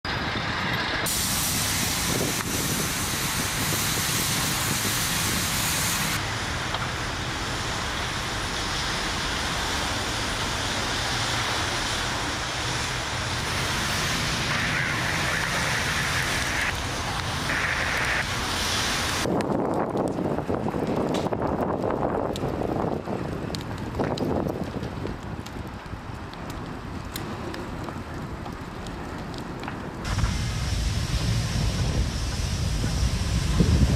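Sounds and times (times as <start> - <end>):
roar of flames: 0.1 - 33.9.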